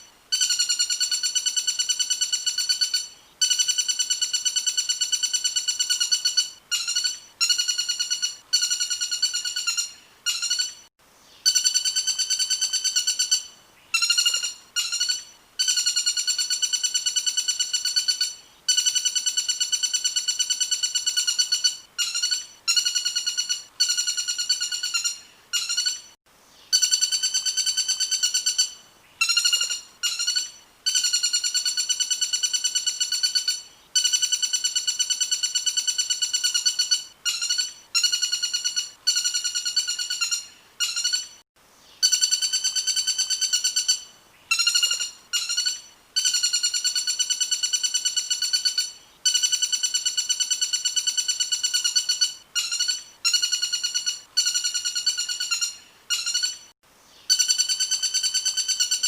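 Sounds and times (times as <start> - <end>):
songbird high trill: 0.0 - 41.4, 42.0 - 59.0.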